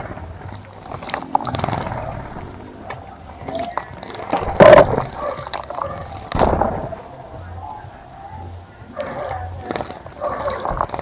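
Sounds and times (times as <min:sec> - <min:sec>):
birds splashing in water: 0:00.0 - 0:11.0.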